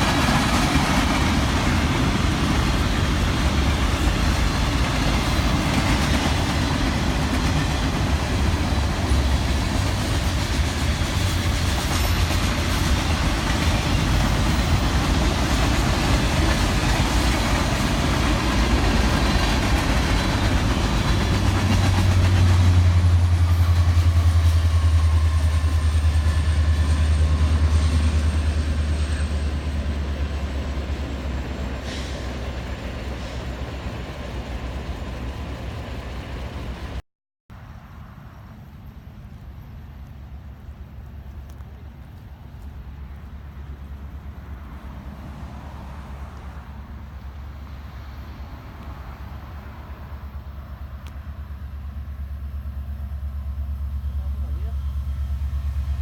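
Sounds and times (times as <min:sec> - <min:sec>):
train wheels rumbling on rail: 0:00.0 - 0:37.0, 0:37.8 - 0:56.0.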